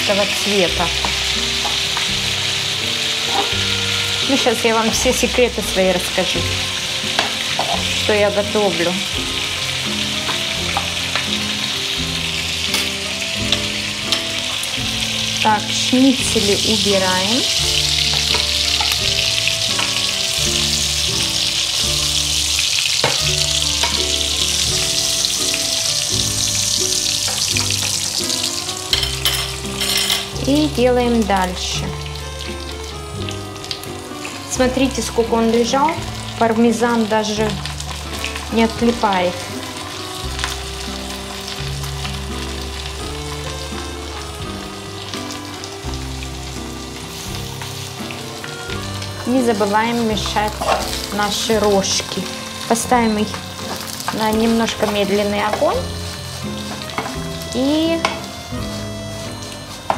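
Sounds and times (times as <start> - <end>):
background music: 0.0 - 59.9
food sizzling in oil: 0.0 - 59.9.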